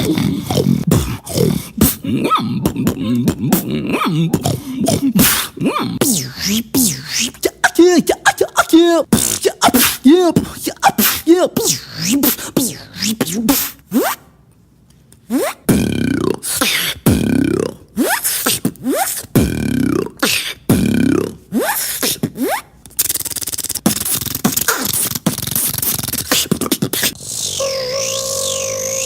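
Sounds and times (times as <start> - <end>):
beatboxing vocal sweeps and clicks: 0.0 - 14.4, 15.2 - 29.0.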